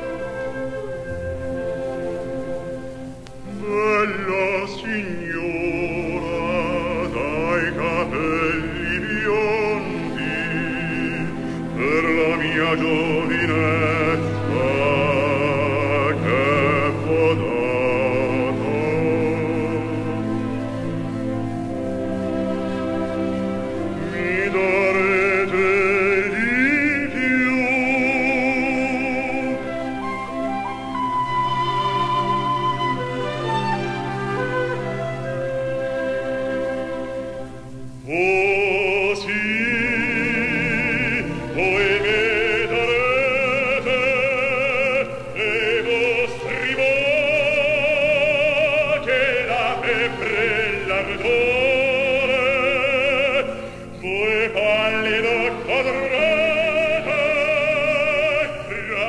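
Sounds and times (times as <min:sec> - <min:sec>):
string orchestra: 0:00.0 - 0:59.0
tape hiss: 0:00.0 - 0:59.0
operatic man singing: 0:03.5 - 0:59.0.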